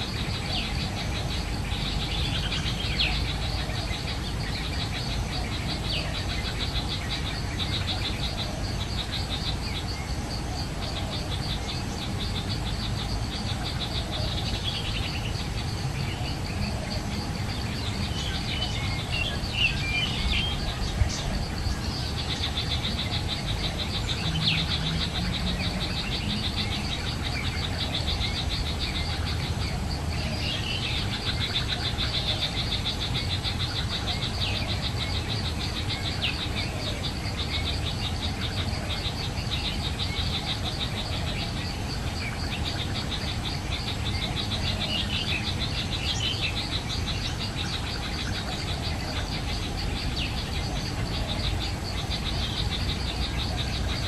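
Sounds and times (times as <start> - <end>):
insect trill: 0.0 - 54.0.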